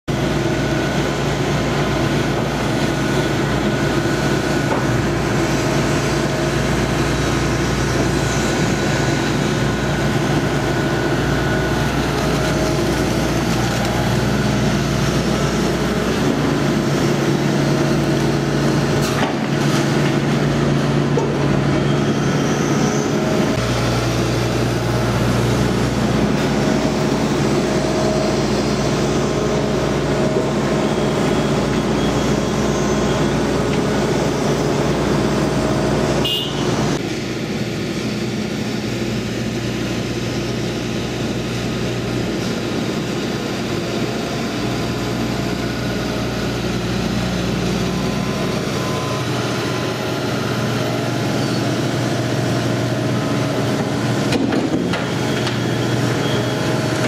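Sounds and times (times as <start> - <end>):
excavator diesel engine running: 0.1 - 57.0
hydraulics working: 0.1 - 57.0.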